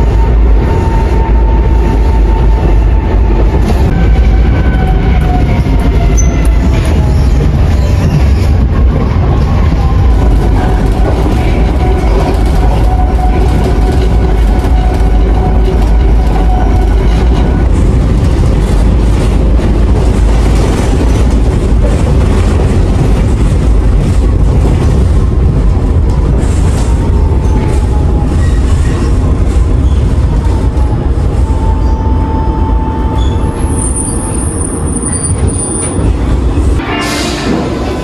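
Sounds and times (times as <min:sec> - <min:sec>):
train rumbling: 0:00.0 - 0:38.0
train whining: 0:00.0 - 0:38.0.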